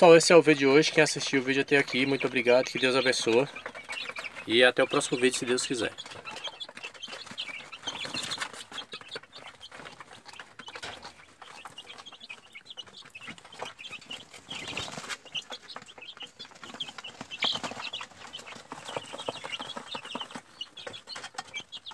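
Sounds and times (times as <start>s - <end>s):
chicks peeping: 0.0s - 21.9s.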